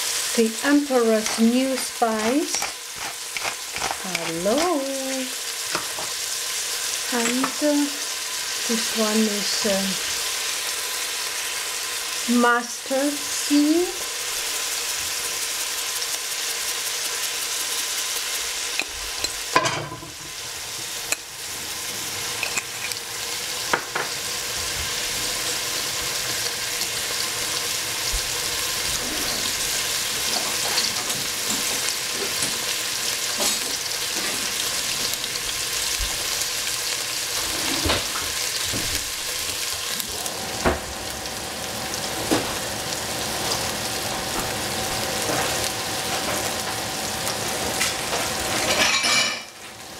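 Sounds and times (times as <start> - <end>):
onions sizzling in oil: 0.0 - 49.9.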